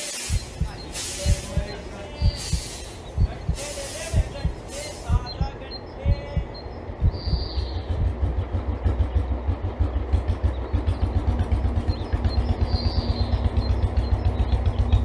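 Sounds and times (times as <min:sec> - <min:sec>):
motorcycle engine idling: 0:00.3 - 0:15.0.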